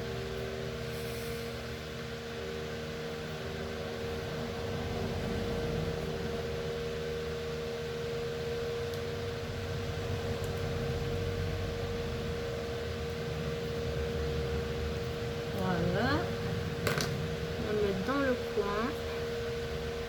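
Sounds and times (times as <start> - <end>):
electric fan whirring: 0.0 - 20.0
steady hum: 0.0 - 20.0.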